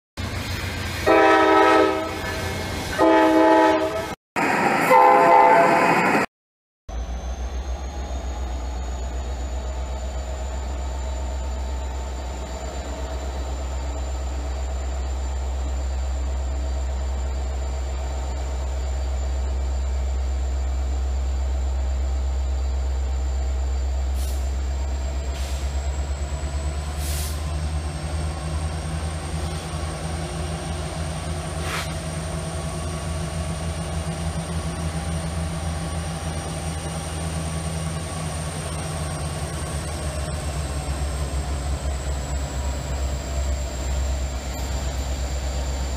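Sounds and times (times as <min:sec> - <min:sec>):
diesel locomotive engine rumbling: 0:00.2 - 0:06.3, 0:06.9 - 0:45.9.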